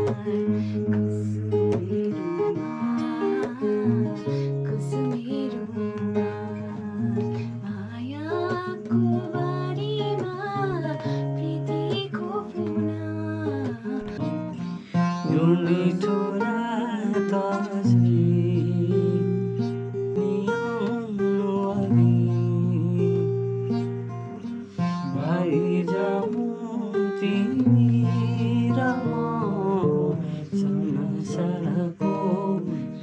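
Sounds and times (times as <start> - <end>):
person singing: 0.0 - 23.8, 24.8 - 33.0
strummed acoustic guitar: 0.0 - 33.0.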